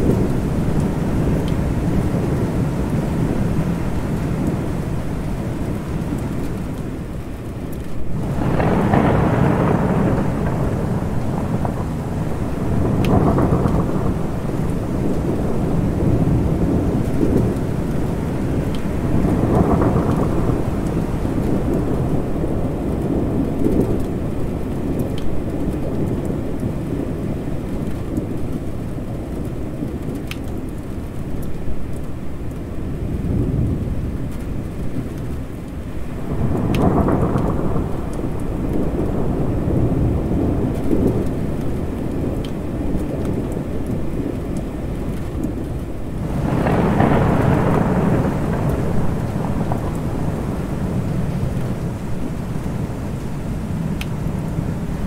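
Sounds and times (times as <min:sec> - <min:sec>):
low rumbling thunder: 0:00.0 - 0:30.2, 0:32.9 - 0:55.0
steady rain: 0:00.0 - 0:55.0.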